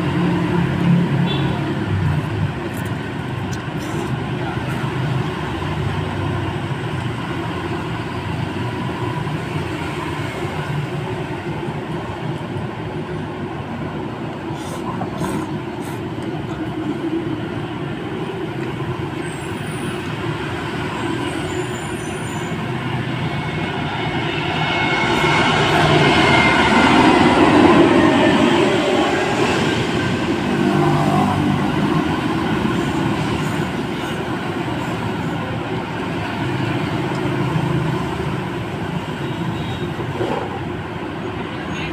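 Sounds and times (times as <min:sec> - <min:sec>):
street traffic noise: 0:00.0 - 0:41.9.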